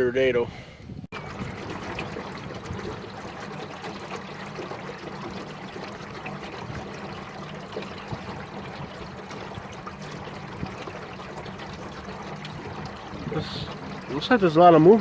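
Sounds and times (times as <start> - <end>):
boat motor hum: 1.1 - 15.0
water rushing and trickling: 1.1 - 15.0.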